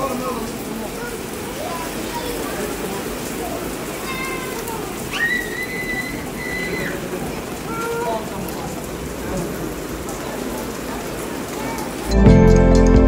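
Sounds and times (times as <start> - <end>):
heavy rain splashing into water: 0.0 - 13.0.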